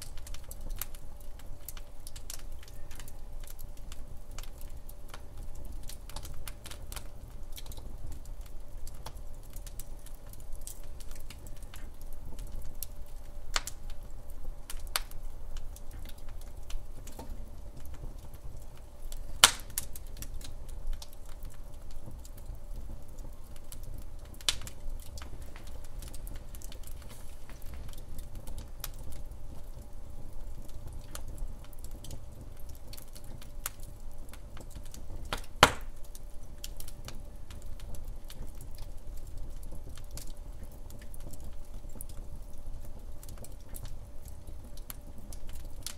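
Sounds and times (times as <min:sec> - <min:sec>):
low steady rumble: 0:00.0 - 0:45.9
wood fire crackling: 0:00.0 - 0:45.9.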